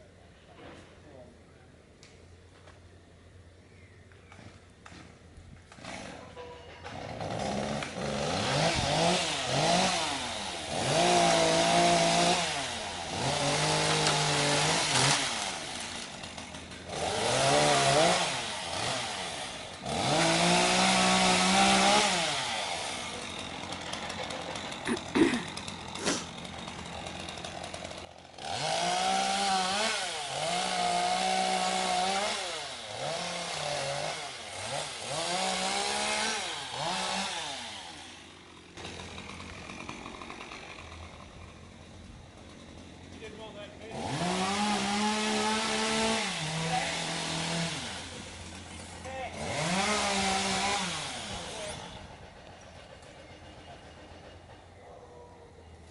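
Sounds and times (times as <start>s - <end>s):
chainsaw revving: 5.7s - 54.7s.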